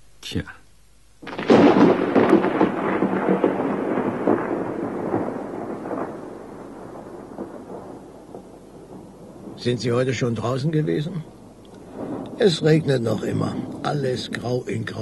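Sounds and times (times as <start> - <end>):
thunder clap and rumble: 1.2 - 15.0.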